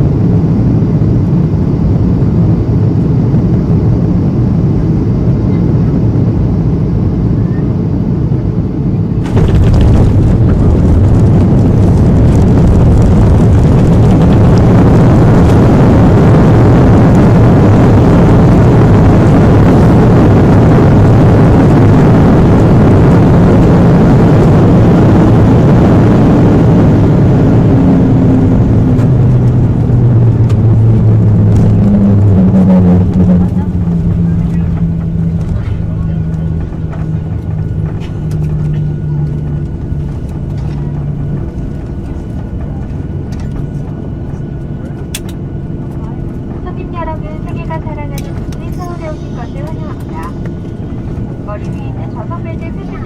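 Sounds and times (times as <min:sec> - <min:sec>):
airliner cabin roar: 0:00.0 - 0:53.0
low steady hum: 0:00.0 - 0:53.0.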